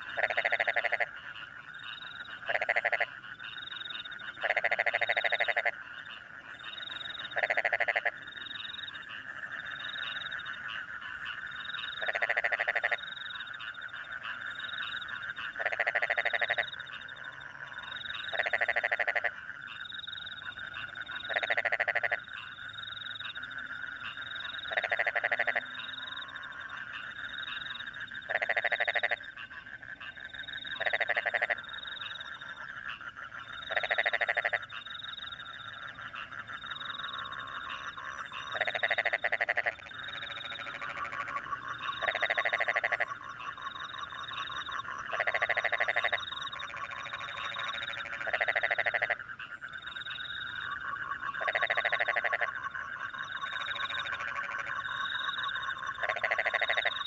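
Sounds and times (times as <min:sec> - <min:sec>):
chorus of frogs and crickets: 0:00.0 - 0:57.0
frog pulsed croak: 0:00.0 - 0:57.0.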